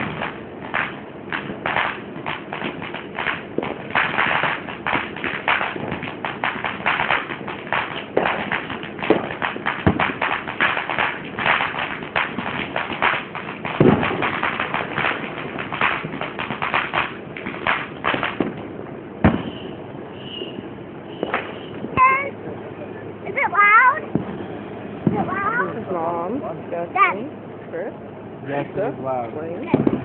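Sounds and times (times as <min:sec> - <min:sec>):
fireworks bangs: 0:00.0 - 0:30.0
fireworks crackling and popping: 0:00.0 - 0:30.0.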